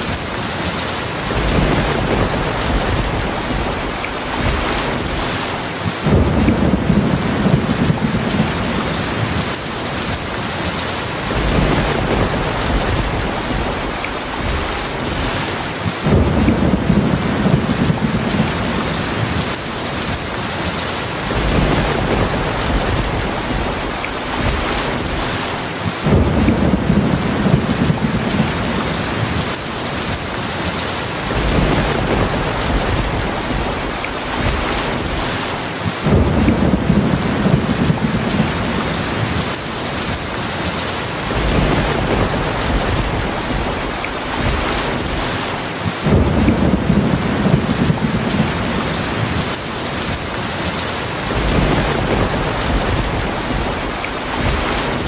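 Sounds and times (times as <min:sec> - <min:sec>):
heavy rain: 0:00.0 - 0:55.0
thunder rumbling: 0:01.0 - 0:10.5, 0:11.1 - 0:20.1, 0:21.1 - 0:30.1, 0:31.1 - 0:55.0.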